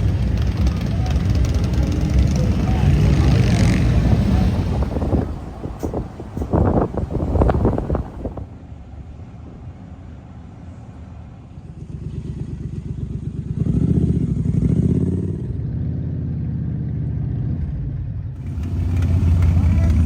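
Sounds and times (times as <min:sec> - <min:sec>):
motorcycle engine running: 0:00.0 - 0:08.5, 0:11.6 - 0:20.0.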